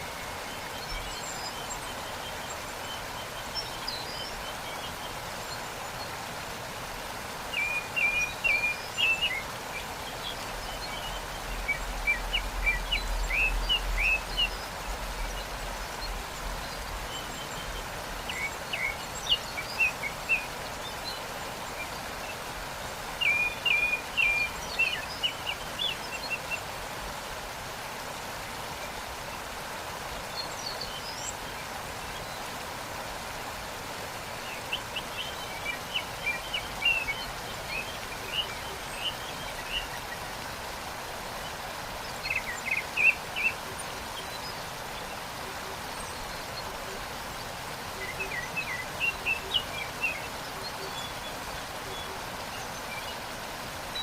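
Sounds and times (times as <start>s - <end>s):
small birds chirping: 0.0s - 27.3s, 28.8s - 54.0s
waterfall rushing: 0.0s - 54.0s.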